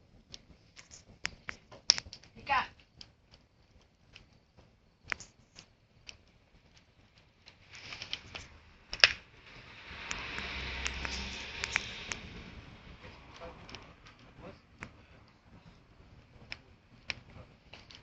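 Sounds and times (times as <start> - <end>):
campfire crackling and popping: 0.0 - 18.0
steady hiss: 0.0 - 18.0.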